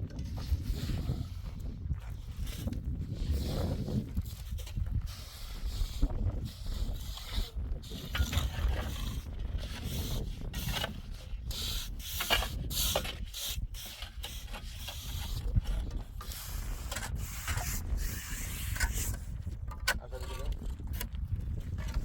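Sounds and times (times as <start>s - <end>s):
scraping rubbing and knocking: 0.0s - 22.0s.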